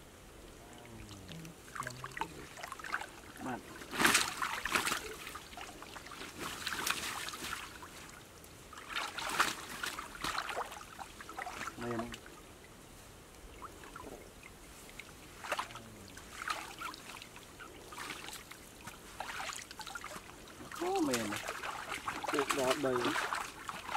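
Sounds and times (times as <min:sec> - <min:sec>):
muddy water splashing: 0:00.5 - 0:23.9.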